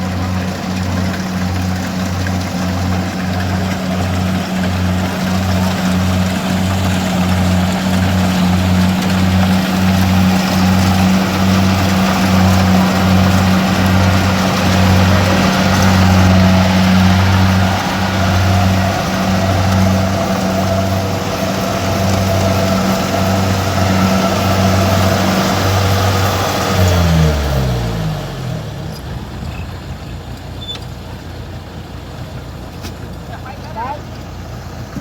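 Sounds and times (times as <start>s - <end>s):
engine running under load: 0.0s - 35.0s.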